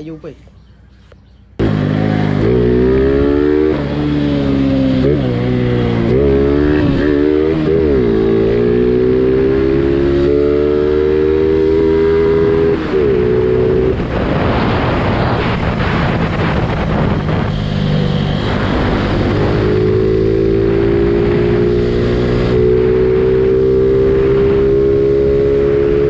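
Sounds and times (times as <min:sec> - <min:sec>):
motorcycle engine running hard: 0:01.4 - 0:26.0
wind rushing over microphone: 0:01.6 - 0:26.0.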